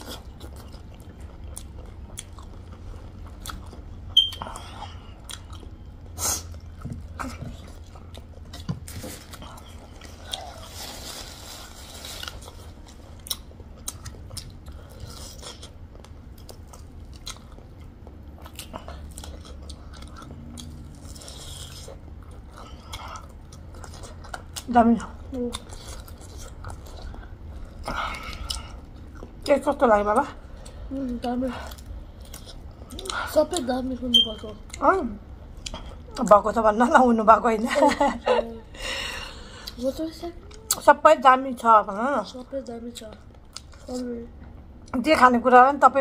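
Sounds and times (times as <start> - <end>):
chewing and crunching food: 0.0 - 37.0, 37.8 - 45.1.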